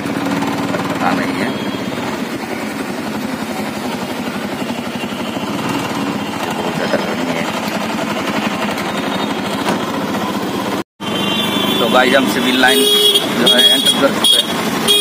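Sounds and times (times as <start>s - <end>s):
auto-rickshaw engine chugging: 0.0s - 15.0s.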